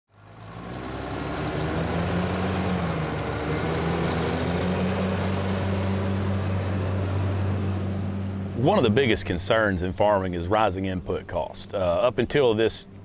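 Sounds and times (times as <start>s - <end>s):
diesel tractor engine under load: 0.1s - 13.0s.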